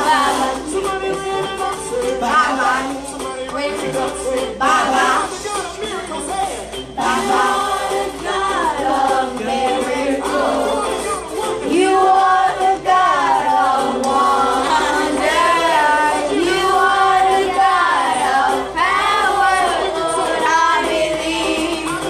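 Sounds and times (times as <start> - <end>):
children and adults singing: 0.0 - 22.0.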